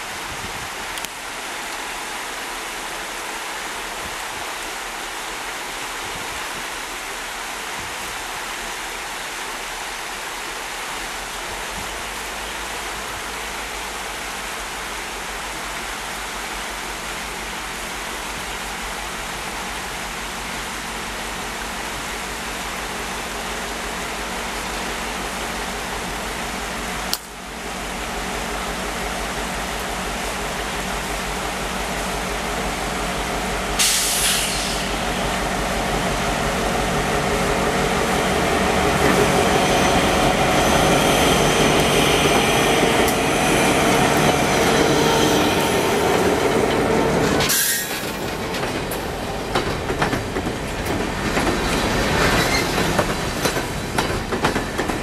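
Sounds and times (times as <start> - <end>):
creek water rushing: 0.0 - 55.0
diesel locomotive engine hum: 10.6 - 55.0.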